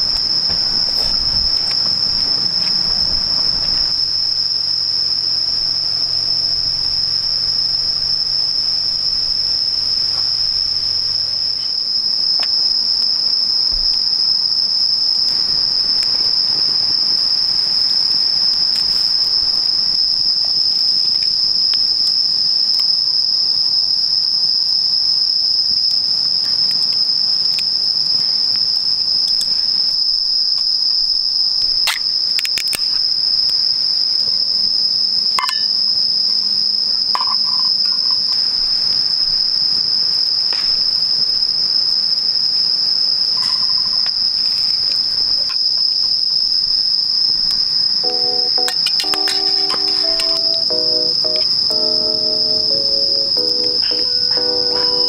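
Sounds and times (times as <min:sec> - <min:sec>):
crickets trilling: 0:00.0 - 0:49.5.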